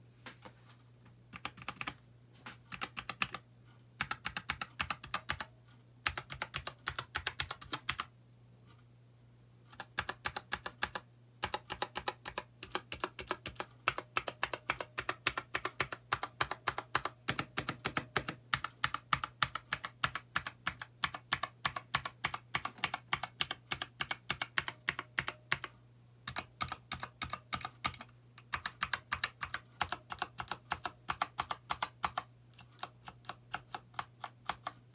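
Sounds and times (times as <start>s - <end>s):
faint low hum: 0.0s - 34.9s.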